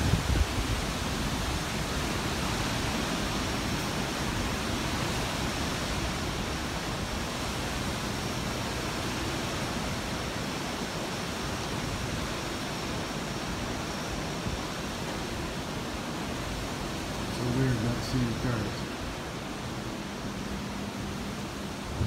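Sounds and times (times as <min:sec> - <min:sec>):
hurricane wind rushing: 0:00.0 - 0:22.0.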